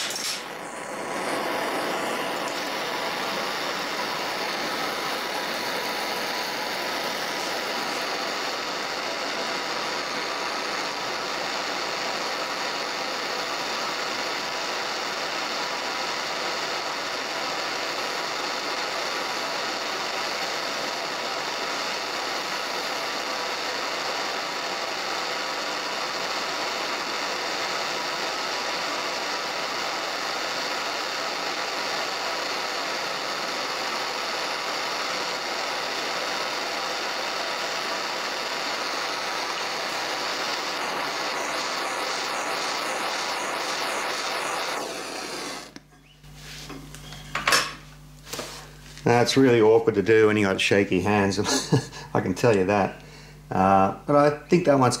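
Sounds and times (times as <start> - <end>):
propane torch hissing: 0.0 - 55.0.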